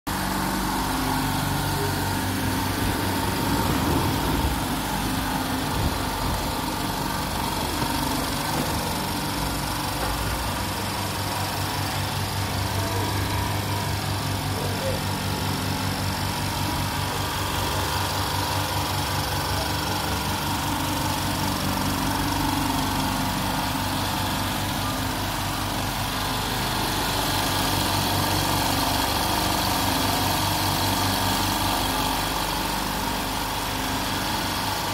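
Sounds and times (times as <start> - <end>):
air compressor humming: 0.1 - 34.9.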